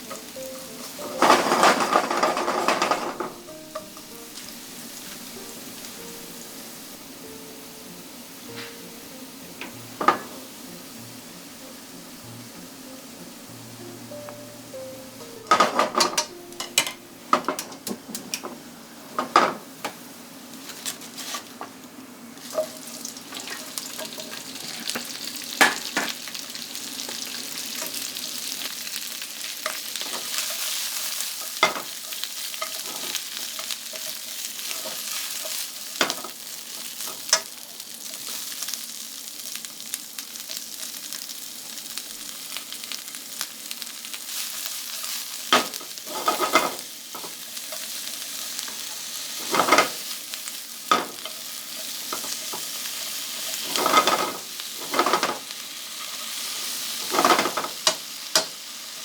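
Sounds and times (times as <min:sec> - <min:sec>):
food sizzling in a frying pan: 0:00.0 - 0:59.0.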